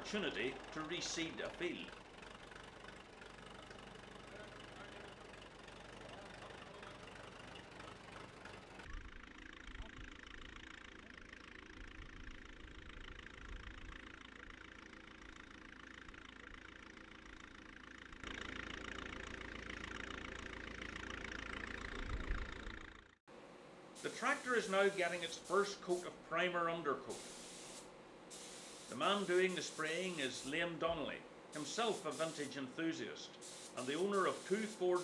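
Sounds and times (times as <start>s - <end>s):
tractor engine running: 0.0s - 23.2s, 24.0s - 35.0s.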